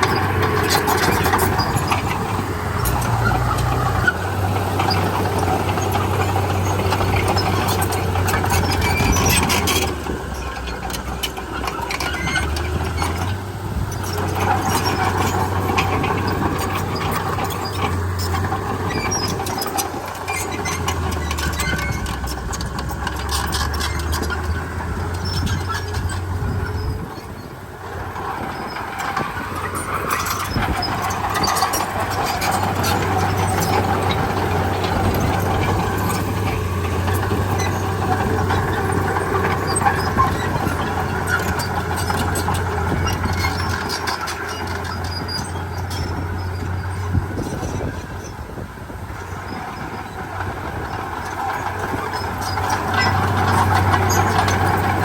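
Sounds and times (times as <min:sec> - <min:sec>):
bulldozer running: 0:00.0 - 0:55.0
dump trucks running: 0:00.0 - 0:55.0.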